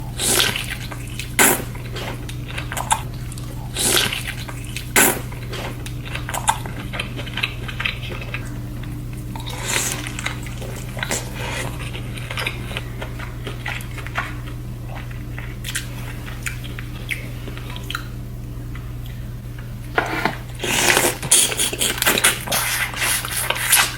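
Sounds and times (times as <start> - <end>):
steady low hum: 0.0 - 23.9
wet chewing and smacking: 0.0 - 23.9.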